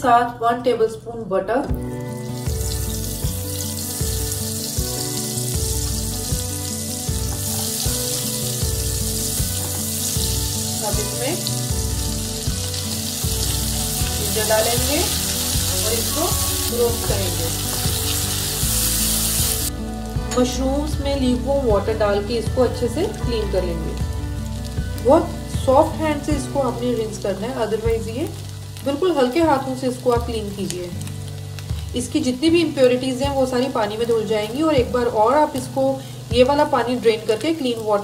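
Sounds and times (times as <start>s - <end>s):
background music: 0.0s - 38.0s
butter sizzling in pan: 2.0s - 20.2s, 22.8s - 38.0s.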